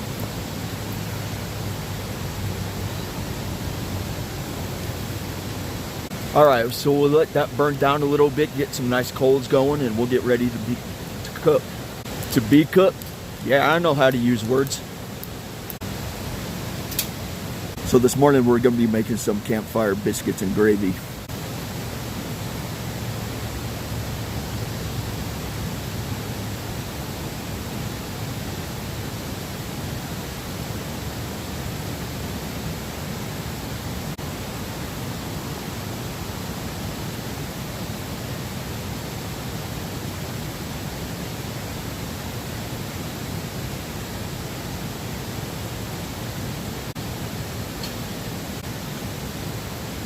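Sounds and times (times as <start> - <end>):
steady rushing hiss: 0.0 - 50.0.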